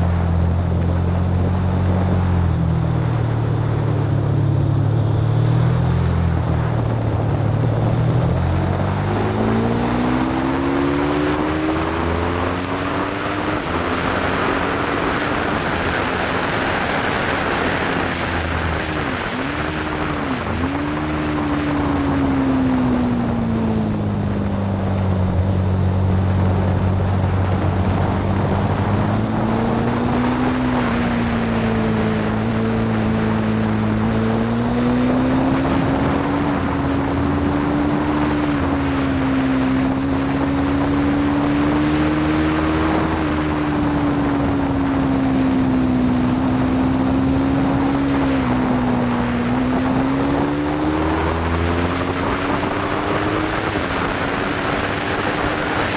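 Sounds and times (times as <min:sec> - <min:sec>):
motorcycle engine running hard: 0:00.0 - 0:55.9
wind rushing over microphone: 0:00.0 - 0:55.9.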